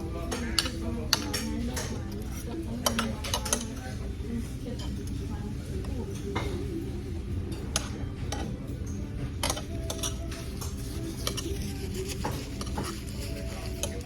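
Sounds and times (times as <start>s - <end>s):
cutlery and dishes clinking: 0.0s - 14.0s.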